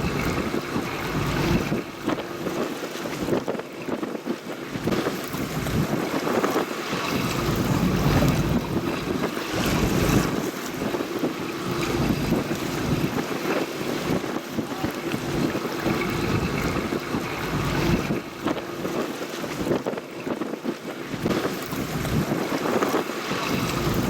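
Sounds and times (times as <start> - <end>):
water washing: 0.0 - 24.0
wind buffeting microphone: 0.0 - 24.0.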